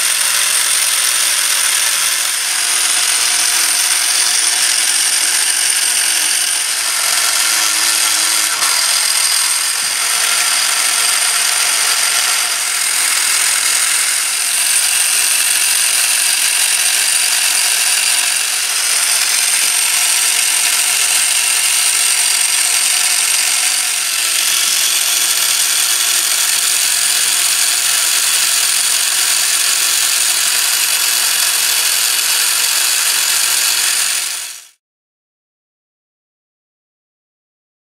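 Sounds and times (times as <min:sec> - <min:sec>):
model crane gears whirring: 0:00.0 - 0:34.8.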